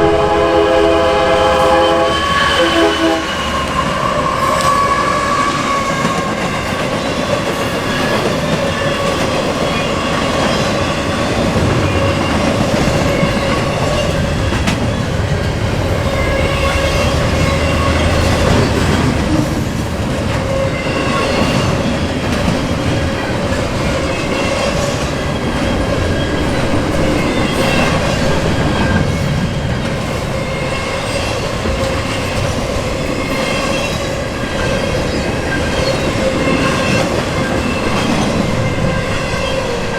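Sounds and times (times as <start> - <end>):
freight train rumbling past: 0.0 - 39.9
clickety-clack of rail joints: 3.4 - 39.9.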